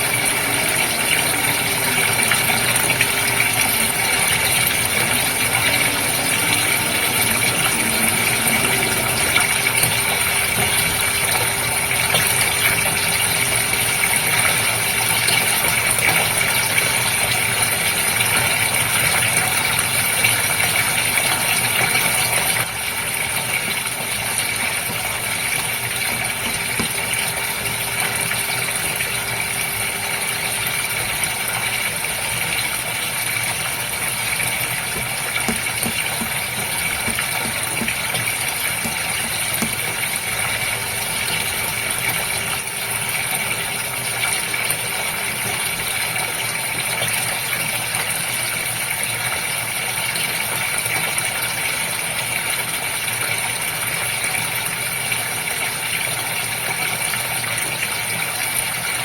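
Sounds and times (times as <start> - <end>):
aquarium pump humming: 0.0 - 55.6.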